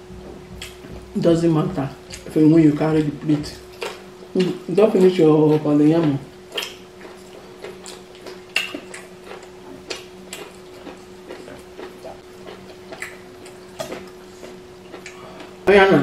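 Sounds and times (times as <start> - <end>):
low steady hum: 0.0 - 16.0
wet chewing and lip smacks: 2.1 - 2.4, 3.0 - 15.6.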